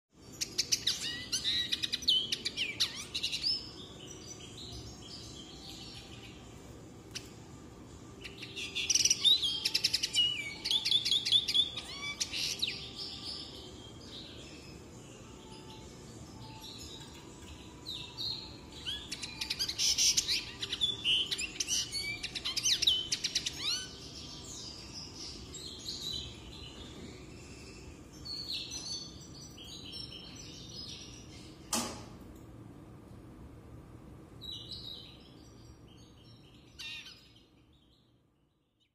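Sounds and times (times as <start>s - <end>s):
linnet twittering song with trills: 0.2s - 31.7s, 34.4s - 38.9s.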